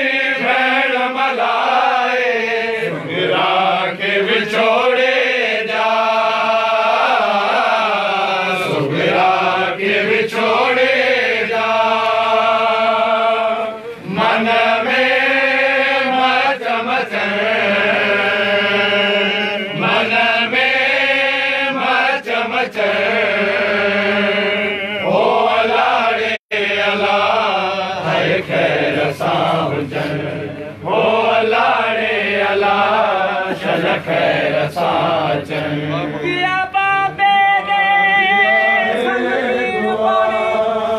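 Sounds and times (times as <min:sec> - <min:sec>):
voices chanting a lament: 0:00.0 - 0:40.9.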